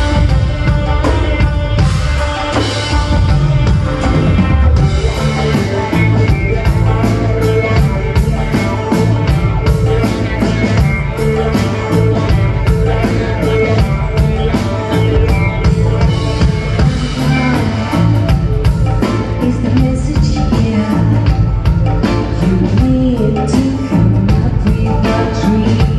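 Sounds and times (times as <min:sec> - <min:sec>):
bass guitar: 0:00.0 - 0:25.9
drum kit beat: 0:00.0 - 0:25.9
electric guitar: 0:00.0 - 0:25.9.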